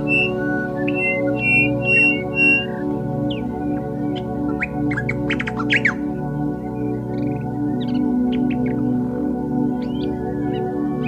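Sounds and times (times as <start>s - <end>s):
ambient music with drone tones: 0.0s - 11.0s
birds chirping: 0.0s - 11.0s.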